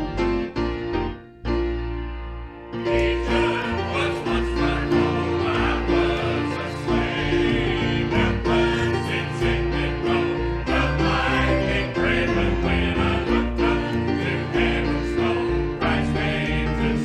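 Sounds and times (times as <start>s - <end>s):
instrumental accompaniment: 0.0s - 17.0s
choir singing gospel music: 2.8s - 17.0s.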